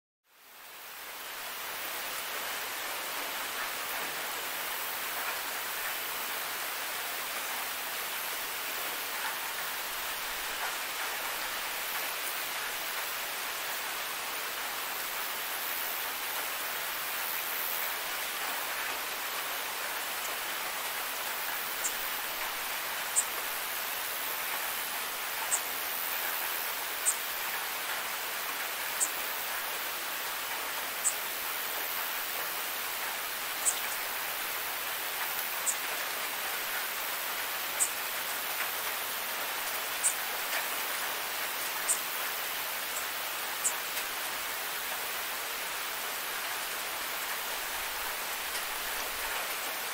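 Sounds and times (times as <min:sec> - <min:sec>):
steady rain hiss: 0:00.3 - 0:49.9.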